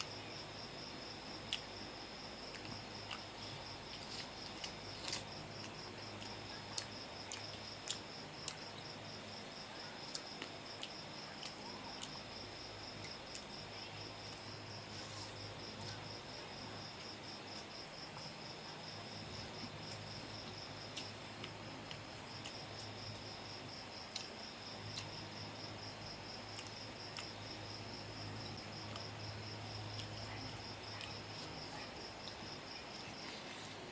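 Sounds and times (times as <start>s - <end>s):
cricket chirping: 0.0s - 33.9s.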